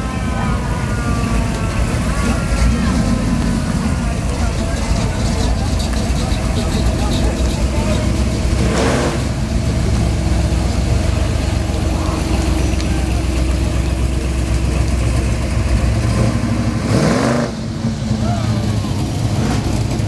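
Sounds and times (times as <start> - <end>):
car engines idling: 0.0 - 20.0.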